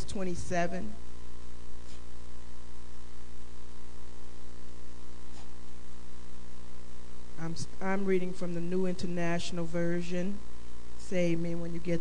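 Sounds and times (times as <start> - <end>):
buzzy mains hum: 0.0 - 12.0.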